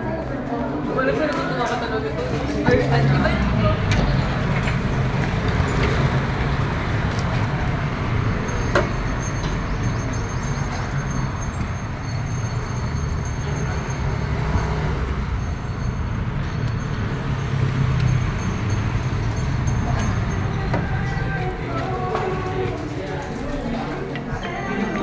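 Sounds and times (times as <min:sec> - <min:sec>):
low rumble of road noise: 0:00.0 - 0:24.9.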